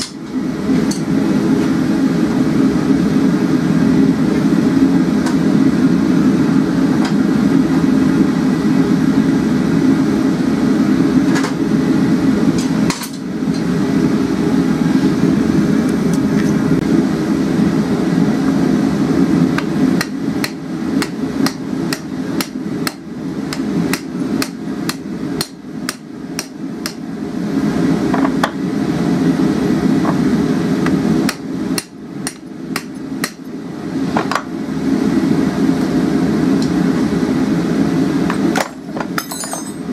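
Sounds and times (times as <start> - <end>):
gas forge burner rushing: 0.0 - 39.2.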